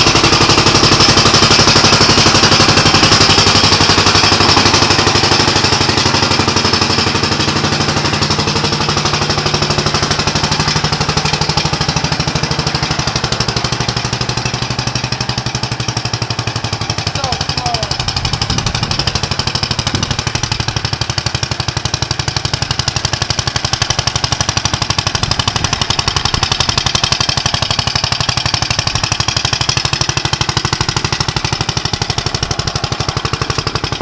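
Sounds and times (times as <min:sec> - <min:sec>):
auger engine running: 0:00.0 - 0:34.0.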